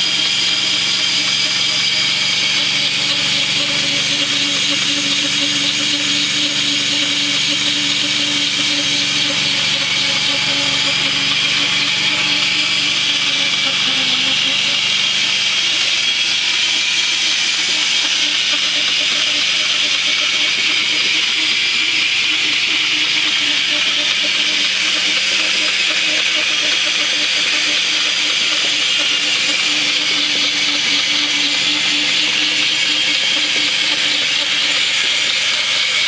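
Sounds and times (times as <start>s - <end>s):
sawmill motor whirring: 0.0s - 36.0s.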